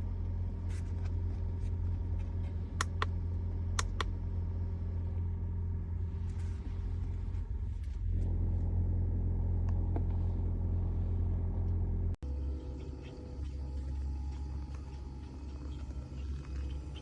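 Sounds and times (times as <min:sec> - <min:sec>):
low rumble inside car: 0:00.0 - 0:17.0.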